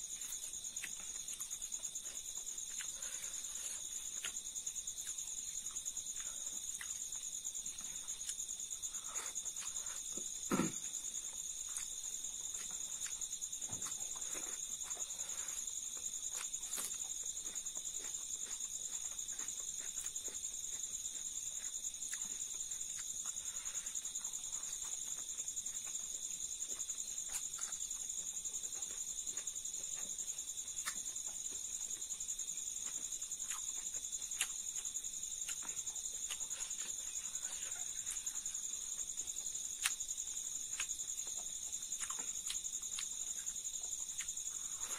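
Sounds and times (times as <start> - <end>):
insects chirping: 0.0 - 44.9
chewing: 0.1 - 44.9.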